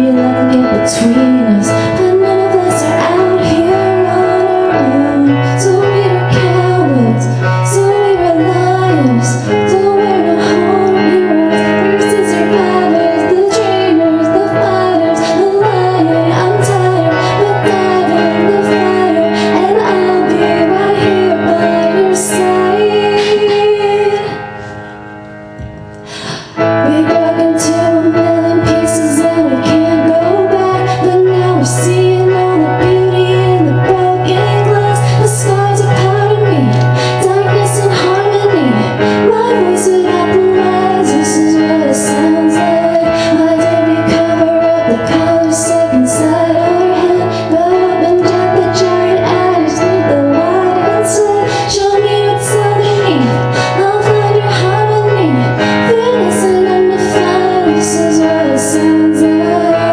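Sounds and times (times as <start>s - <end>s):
pop song with singing: 0.0s - 59.9s.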